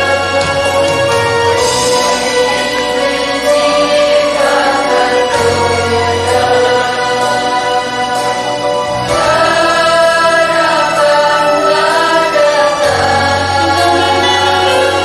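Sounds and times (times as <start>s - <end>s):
mixed choir singing in harmony: 0.0s - 15.0s
steady low accompaniment: 0.0s - 15.0s.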